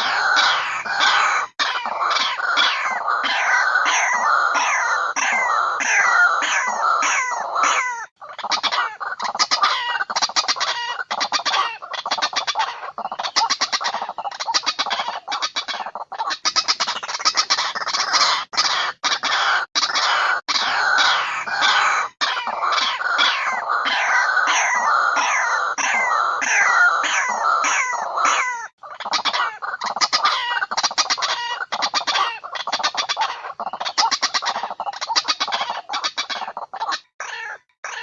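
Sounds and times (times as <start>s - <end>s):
waterhen calls: 0.0s - 38.0s.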